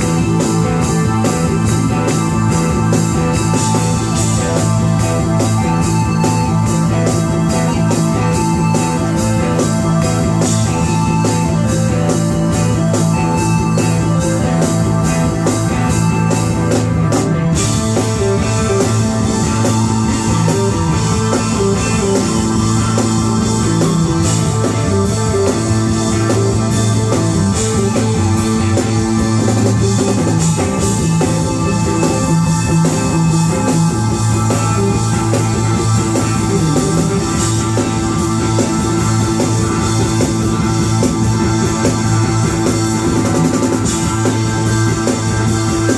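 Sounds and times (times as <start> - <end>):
drum kit: 0.0 - 45.9
electric guitar: 0.0 - 45.9.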